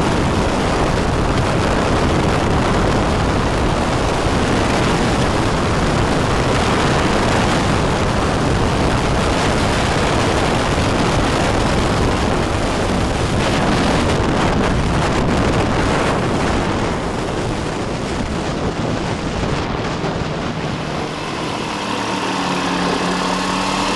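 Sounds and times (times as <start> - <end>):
aircraft engine humming: 0.0 - 23.9
wind buffeting microphone: 0.0 - 23.9.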